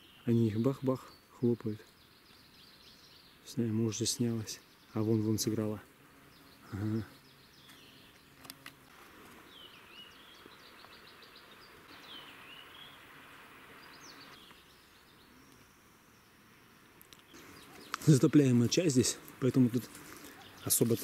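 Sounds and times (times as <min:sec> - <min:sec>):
songbird calls: 0:00.0 - 0:08.7, 0:09.4 - 0:21.0
forest ambience: 0:00.0 - 0:21.0.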